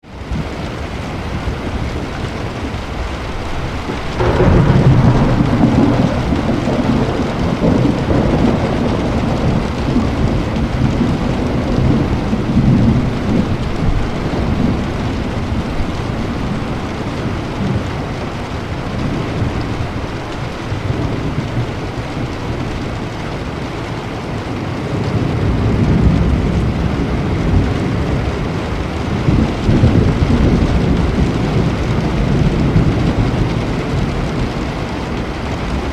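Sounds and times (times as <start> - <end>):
steady rain: 0.0 - 35.9
thunder clap and rumble: 0.1 - 35.9.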